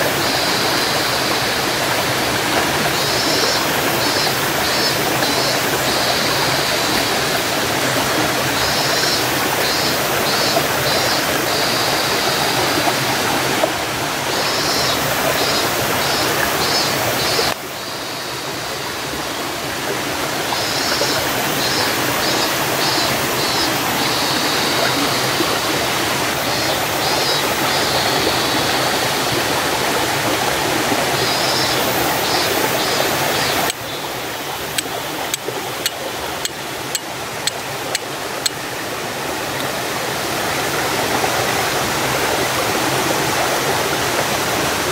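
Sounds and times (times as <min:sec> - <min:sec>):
stream water rushing: 0:00.0 - 0:44.9.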